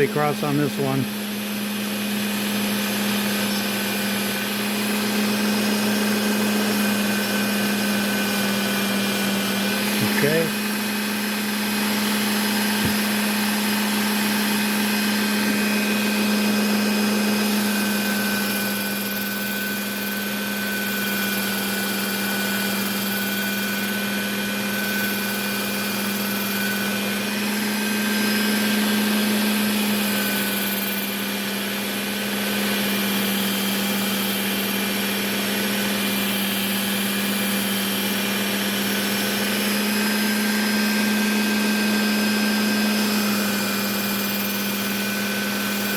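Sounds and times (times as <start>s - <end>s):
belt sharpener motor humming: 0.0s - 45.9s.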